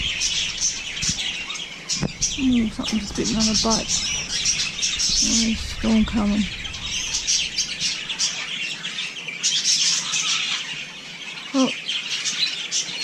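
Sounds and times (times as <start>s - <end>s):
parrots calling: 0.0s - 13.0s.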